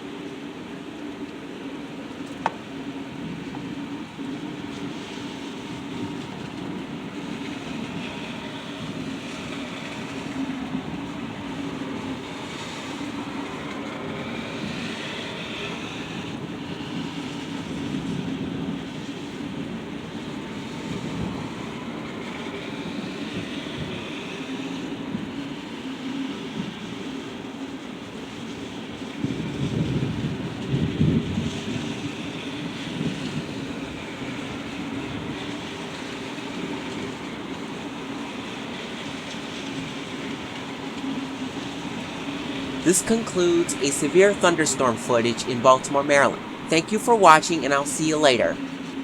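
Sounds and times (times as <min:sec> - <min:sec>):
rain: 0:00.0 - 0:42.9, 0:45.8 - 0:47.8, 0:48.6 - 0:49.0.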